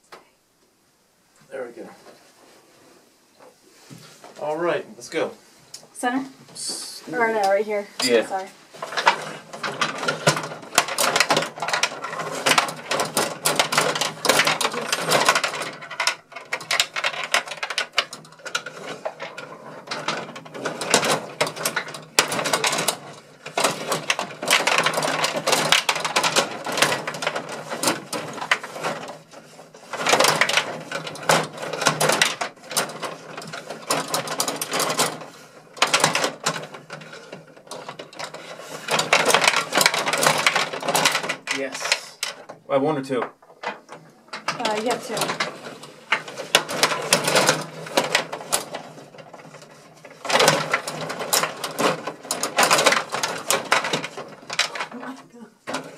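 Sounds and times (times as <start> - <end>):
table hockey rods clattering: 6.5 - 55.9.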